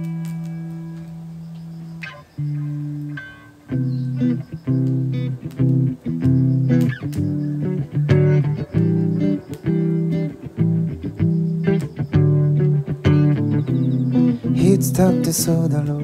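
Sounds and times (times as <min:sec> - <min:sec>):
guitar playing chords: 0:00.0 - 0:16.0.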